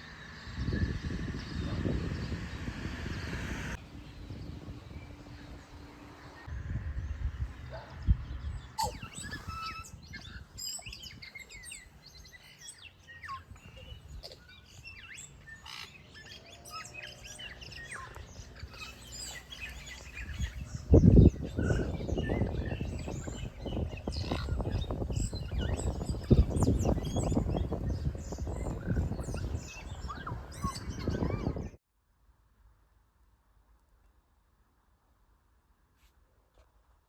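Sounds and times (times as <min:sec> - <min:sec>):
small birds chirping: 0:00.0 - 0:31.8.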